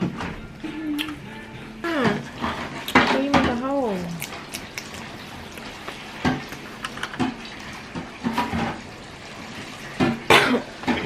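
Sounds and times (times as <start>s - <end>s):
water running: 0.0s - 11.0s.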